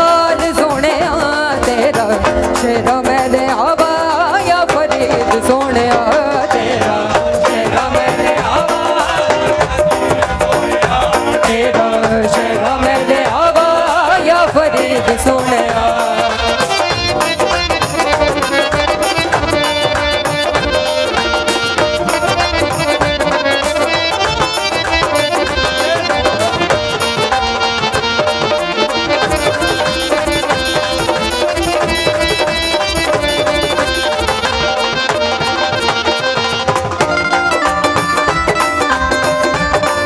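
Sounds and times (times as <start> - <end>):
sustained melody line: 0.0 - 40.0
tabla playing: 0.0 - 40.0.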